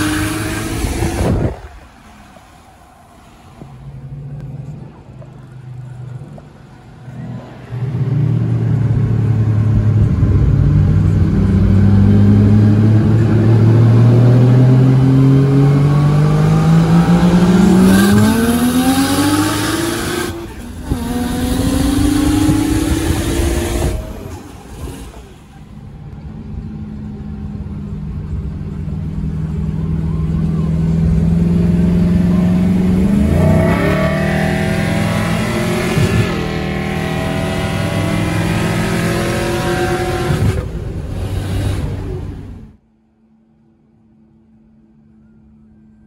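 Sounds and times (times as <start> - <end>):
car engine at full throttle: 0.0 - 42.9.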